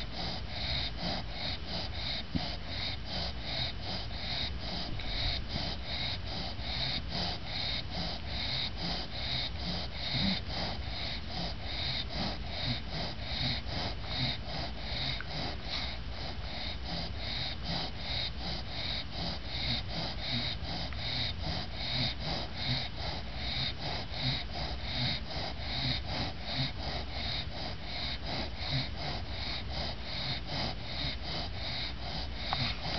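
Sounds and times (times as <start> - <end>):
dog snoring and snorting: 0.0 - 32.9.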